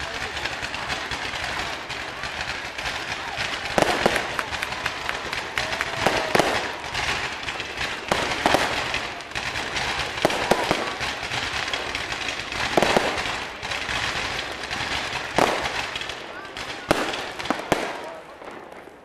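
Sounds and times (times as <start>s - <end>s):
firecracker crackle: 0.0s - 19.0s
fireworks bangs: 0.0s - 19.0s.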